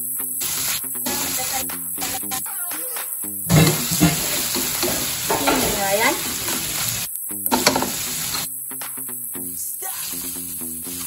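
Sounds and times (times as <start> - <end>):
meat sizzling in a wok: 0.0 - 11.0.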